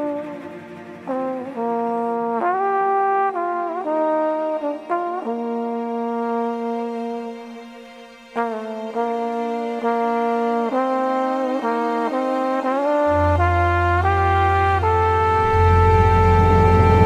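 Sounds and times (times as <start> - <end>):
trombone playing slow melody: 0.0 - 7.5, 8.4 - 17.0.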